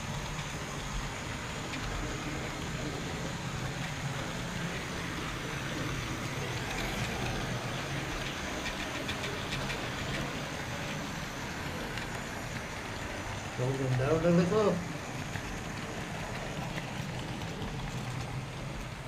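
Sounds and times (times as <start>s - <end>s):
model train wheels rumbling: 0.0s - 19.0s.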